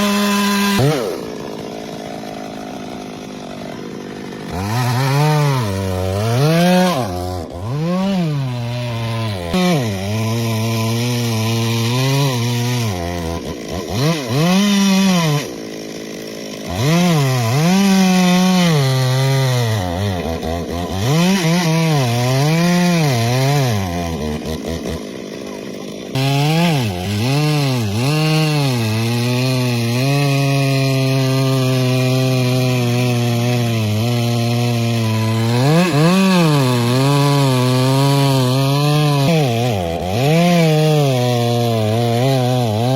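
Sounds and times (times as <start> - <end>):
chainsaw revving and cutting wood: 0.0 - 42.9.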